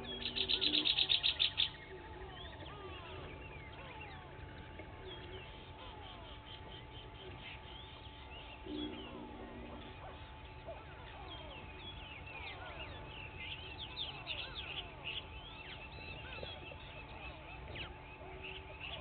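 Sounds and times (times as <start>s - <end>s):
birds chirping and whistling: 0.0s - 19.0s
low bird call: 0.0s - 19.0s.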